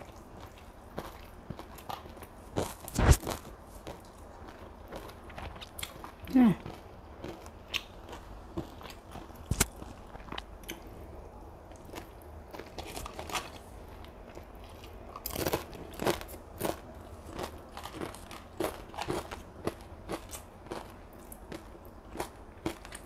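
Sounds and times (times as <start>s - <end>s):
chewing with crunchy bites: 0.0s - 23.0s.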